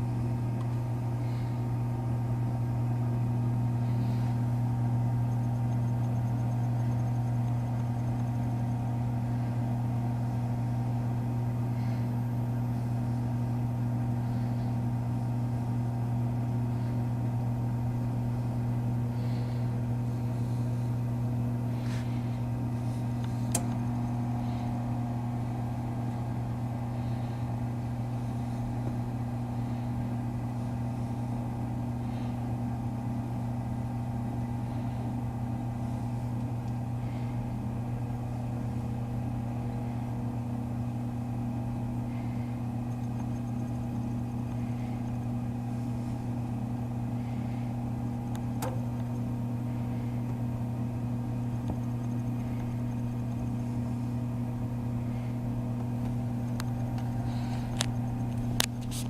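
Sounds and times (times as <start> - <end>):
toaster oven humming: 0.0 - 59.0.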